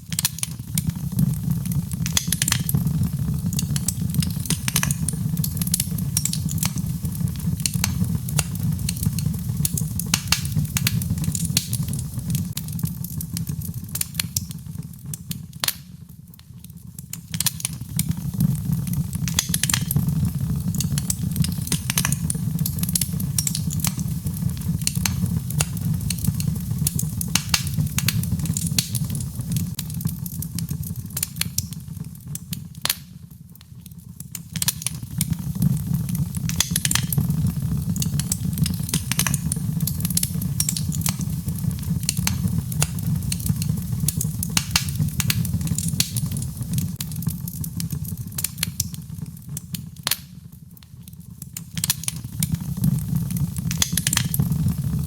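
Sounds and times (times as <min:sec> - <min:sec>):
fire crackling and popping: 0:00.0 - 0:55.0
low steady fire rumble: 0:00.0 - 0:55.0.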